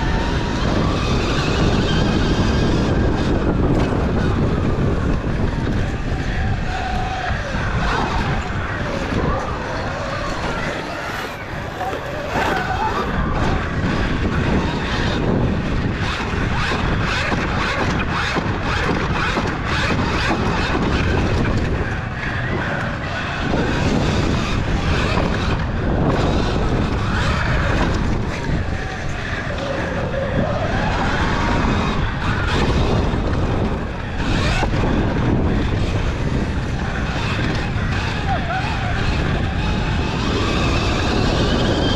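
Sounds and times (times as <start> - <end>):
wind buffeting: 0.0 - 41.9.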